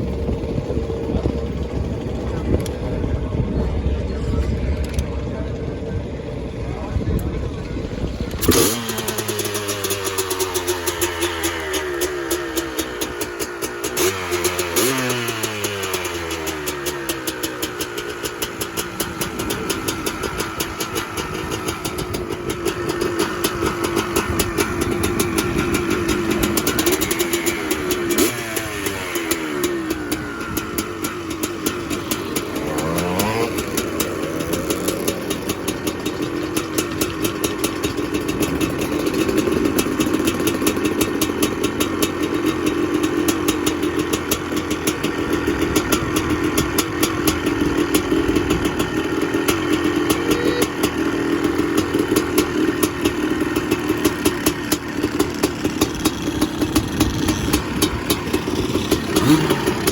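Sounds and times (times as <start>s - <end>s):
two-stroke motocross engine revving: 0.0s - 59.9s.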